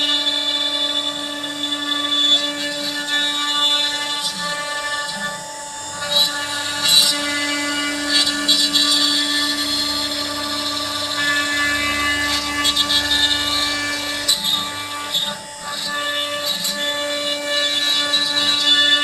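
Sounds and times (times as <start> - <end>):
bit cutting wood: 0.0 - 19.0
router spindle whine: 0.0 - 19.0.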